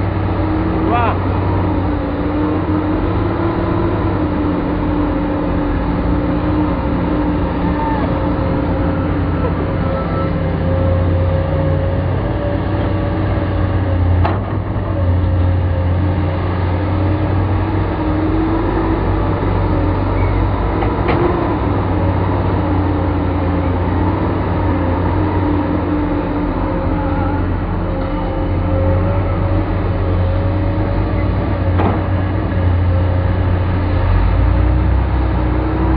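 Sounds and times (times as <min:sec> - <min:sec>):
heavy diesel engine running: 0:00.0 - 0:35.9.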